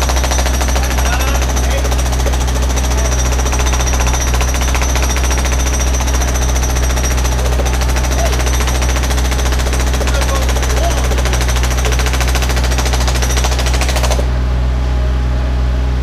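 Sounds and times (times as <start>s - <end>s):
hydraulic hammer pounding: 0.0s - 14.3s.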